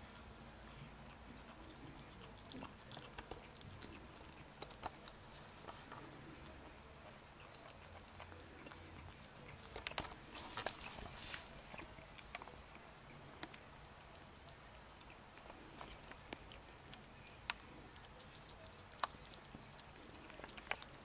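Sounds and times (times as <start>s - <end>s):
kitten chewing and licking: 0.0s - 21.0s.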